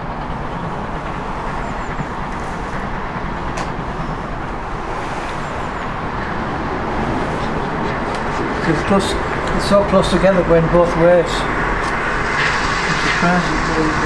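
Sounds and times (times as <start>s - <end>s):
steam locomotive low rumble: 0.0s - 14.0s.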